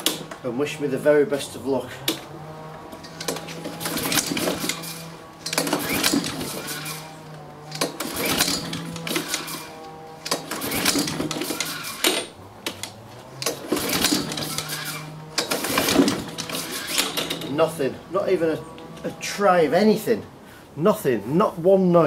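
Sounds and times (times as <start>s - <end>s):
lawnmower recoil starter pulls: 0.0s - 20.1s.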